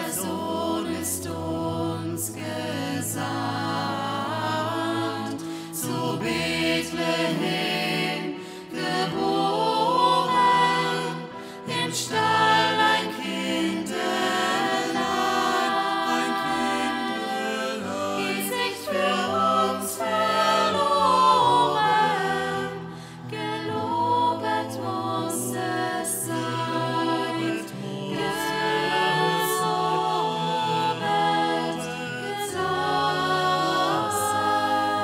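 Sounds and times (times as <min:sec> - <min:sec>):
choir singing a cappella: 0:00.0 - 0:35.0.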